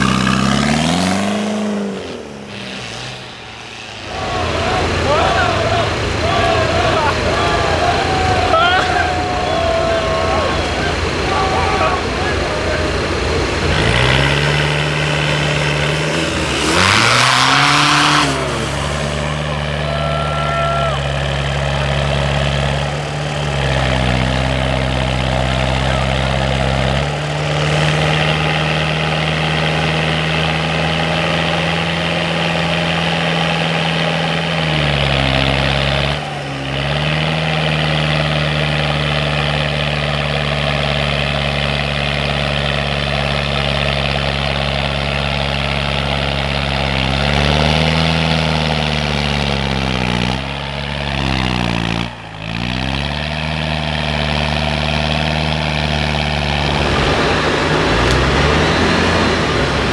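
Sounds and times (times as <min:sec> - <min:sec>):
off-road engine running under load: 0:00.0 - 0:59.9.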